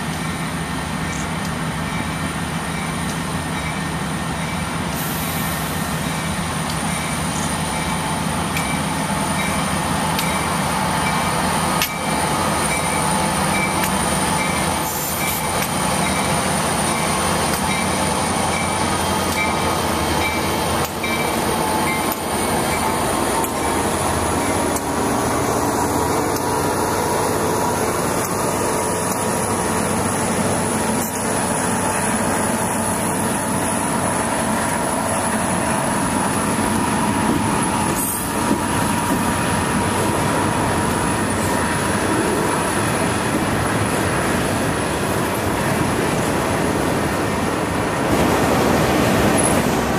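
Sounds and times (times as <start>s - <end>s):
diesel locomotives passing: 0.0s - 49.9s
train wheels rumbling on rails: 0.0s - 49.9s.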